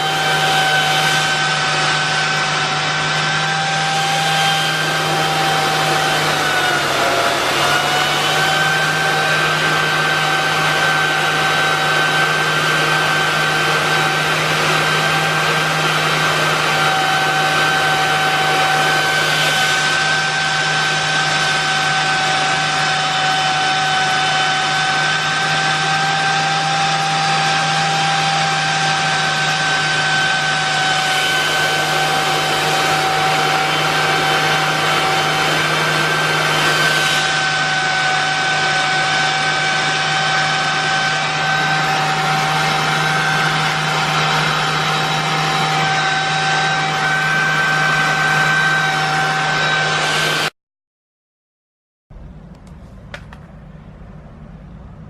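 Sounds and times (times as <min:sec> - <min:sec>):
vacuum cleaner motor whine: 0:00.0 - 0:50.6.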